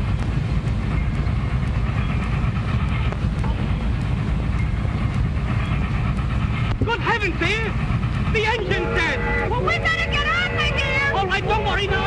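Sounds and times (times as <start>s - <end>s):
steam train rumbling: 0.0s - 12.0s
wheels clattering on rails: 0.0s - 12.0s.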